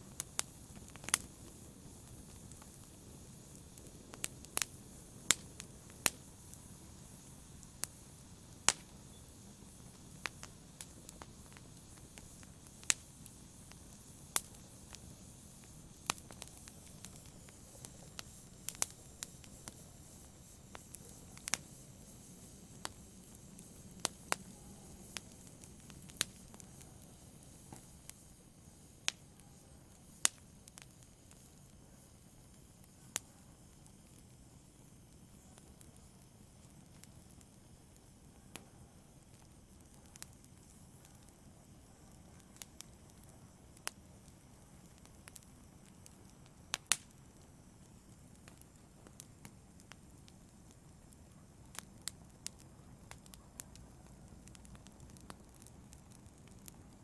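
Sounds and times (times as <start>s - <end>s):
fire pops and crackles: 0.0s - 57.0s
wood fire hissing and rumbling: 0.0s - 57.0s.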